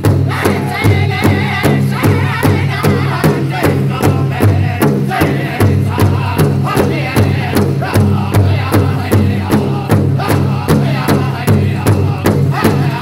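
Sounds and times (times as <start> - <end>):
large drum beating: 0.0 - 13.0
men singing in unison: 0.0 - 13.0.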